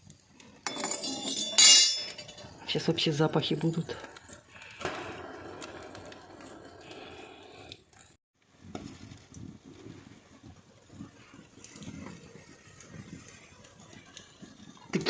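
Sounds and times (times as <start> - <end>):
fire hissing and crackling: 0.0 - 15.0.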